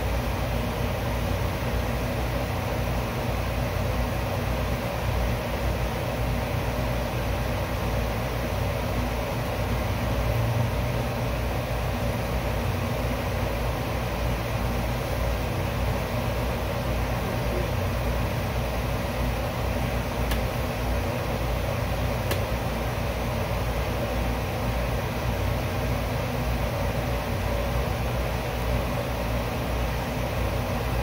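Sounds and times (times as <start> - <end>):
steady hum and hiss: 0.0 - 31.0.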